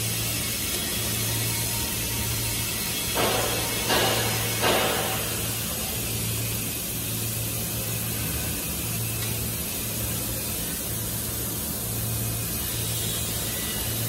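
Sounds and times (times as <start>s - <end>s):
workshop hiss: 0.0s - 14.0s.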